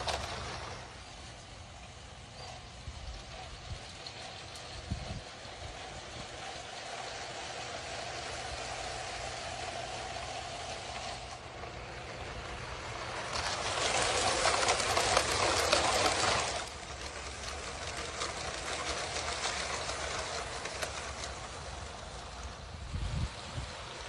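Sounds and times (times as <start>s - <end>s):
toy train clattering on track: 0.0s - 24.0s.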